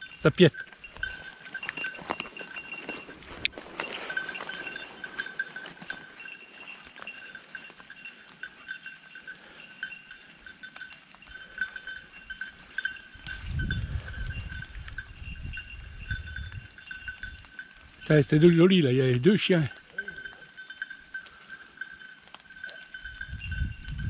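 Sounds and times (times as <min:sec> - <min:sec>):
dog collar bell jingling: 0:00.0 - 0:24.0.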